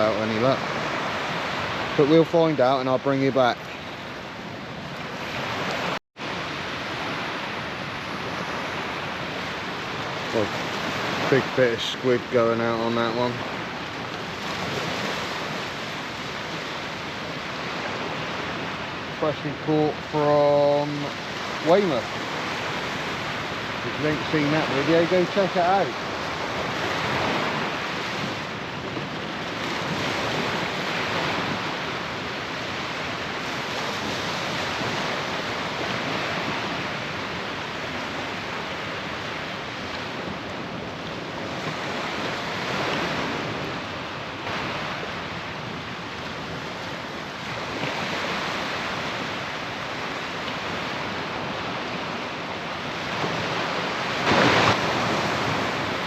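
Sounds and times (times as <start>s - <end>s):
surf breaking on beach: 0.0s - 56.0s.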